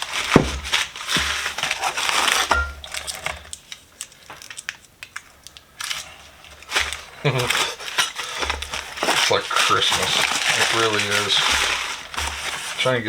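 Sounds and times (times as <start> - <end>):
packing material crinkling: 0.0 - 13.0.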